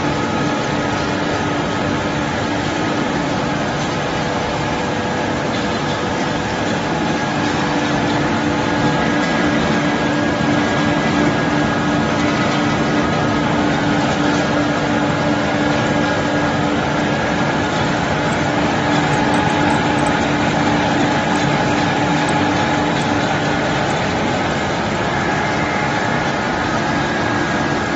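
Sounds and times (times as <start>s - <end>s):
constant machine hum: 0.0s - 27.9s
machinery running: 0.0s - 27.9s.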